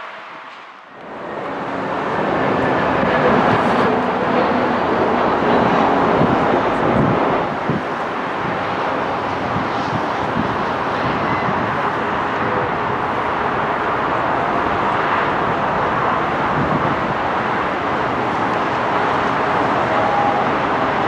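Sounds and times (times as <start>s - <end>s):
airliner jet engines: 0.0s - 21.0s.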